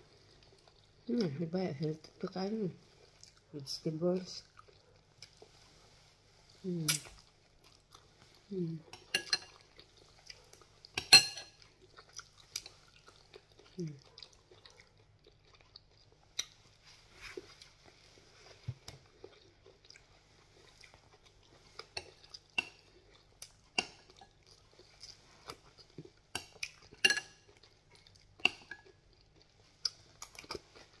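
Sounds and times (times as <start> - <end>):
chewing: 0.1 - 1.4, 2.8 - 31.0.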